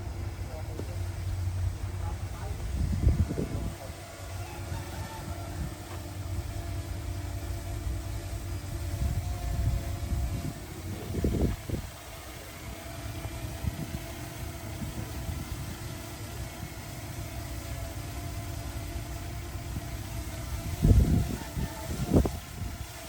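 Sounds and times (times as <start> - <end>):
heavy diesel engine running: 0.0 - 22.7.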